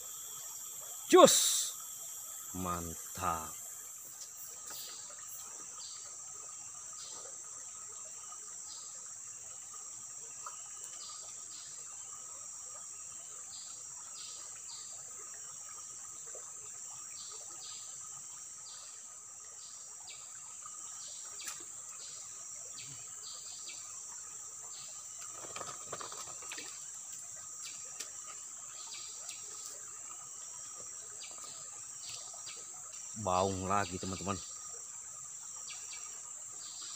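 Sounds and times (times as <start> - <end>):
insect chirps: 0.0 - 36.9
insect chorus drone: 0.0 - 36.9.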